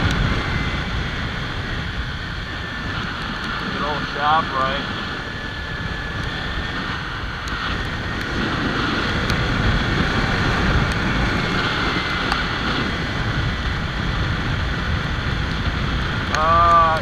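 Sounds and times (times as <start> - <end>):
faint steady whine: 0.0 - 17.0
road noise: 0.0 - 17.0
wind rush: 0.0 - 17.0.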